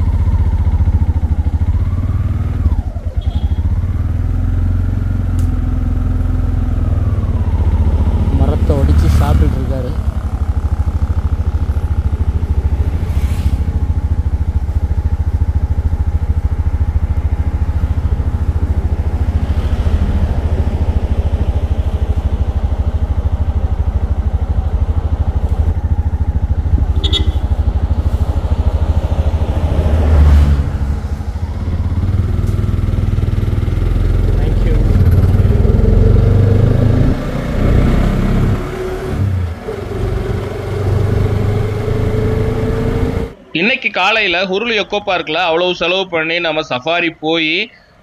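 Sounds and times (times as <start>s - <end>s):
auto rickshaw engine puttering: 0.0s - 43.6s.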